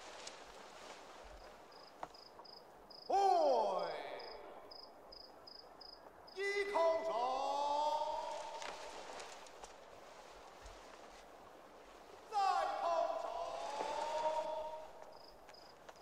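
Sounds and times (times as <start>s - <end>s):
cricket chirping: 0.0s - 10.4s, 11.9s - 16.0s.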